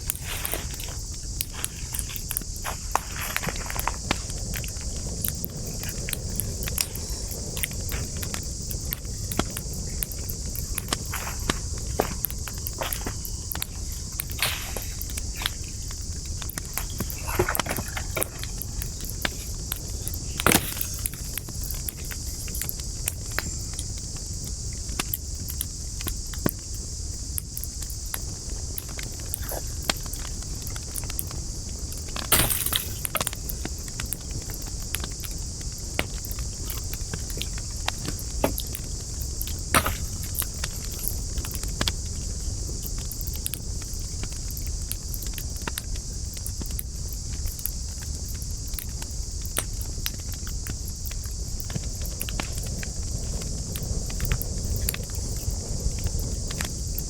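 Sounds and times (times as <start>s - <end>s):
fire hiss and rumble: 0.0s - 57.0s
wood fire crackling: 0.0s - 57.0s.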